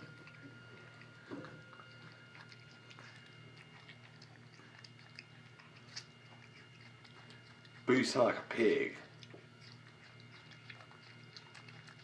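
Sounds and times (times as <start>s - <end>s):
monkey chewing wet smacks: 0.0s - 12.0s.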